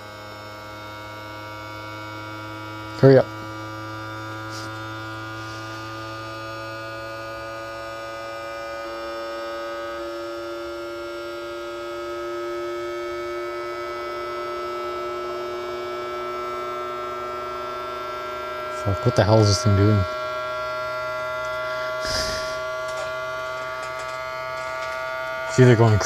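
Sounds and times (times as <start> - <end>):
stepper motors humming tones: 0.0 - 26.0.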